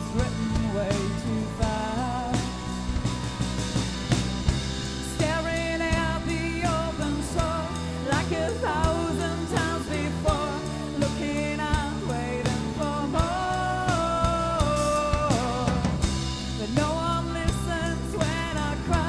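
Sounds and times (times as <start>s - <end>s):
bass guitar: 0.0s - 19.0s
drum kit beat: 0.0s - 19.0s
electric guitar: 0.0s - 19.0s.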